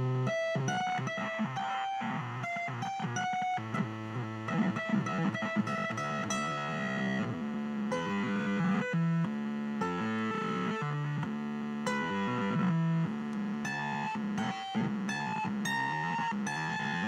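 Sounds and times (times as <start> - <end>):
distorted buzzy electronic tones: 0.0 - 17.0.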